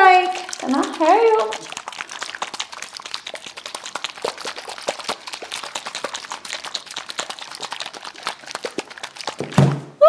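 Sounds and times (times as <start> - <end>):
plastic shaker clicking and knocking: 0.0 - 1.8, 3.1 - 9.8.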